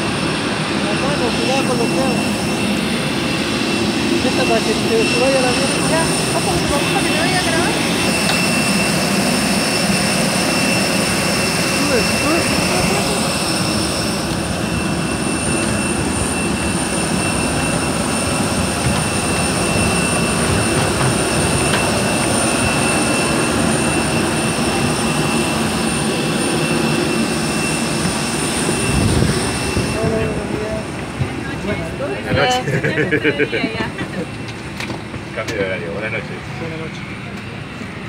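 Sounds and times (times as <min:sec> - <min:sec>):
high-pitched turbine whine: 0:00.0 - 0:38.0
jet turbine roar: 0:00.0 - 0:38.0.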